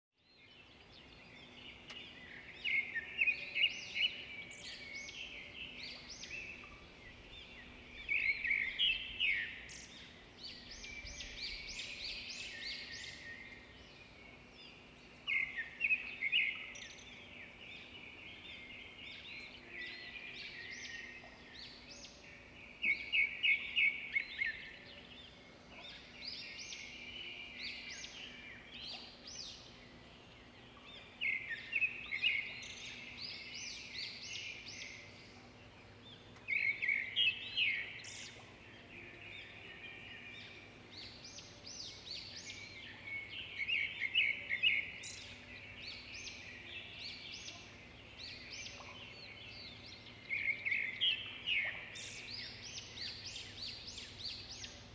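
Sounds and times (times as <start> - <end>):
small birds chirping: 0.2 - 54.9.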